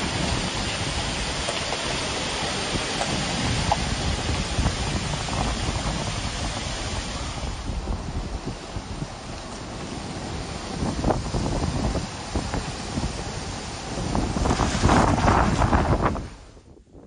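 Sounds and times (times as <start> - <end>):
waterfall rushing: 0.0 - 16.2
wind buffeting microphone: 0.0 - 17.0.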